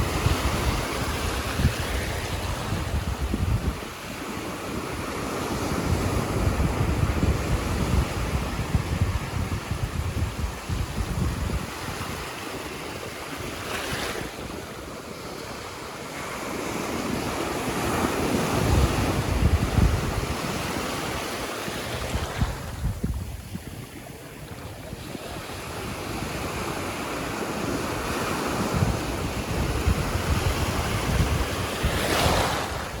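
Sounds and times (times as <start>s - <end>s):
surf washing onto beach: 0.0s - 33.0s
wind buffeting microphone: 0.0s - 33.0s.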